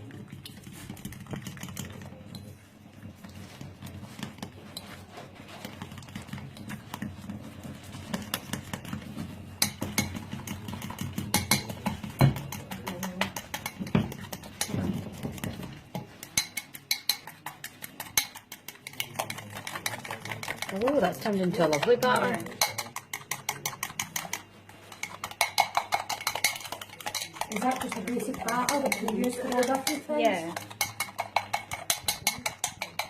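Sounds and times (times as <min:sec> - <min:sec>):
utensil beating batter in bowl: 0:00.0 - 0:33.0.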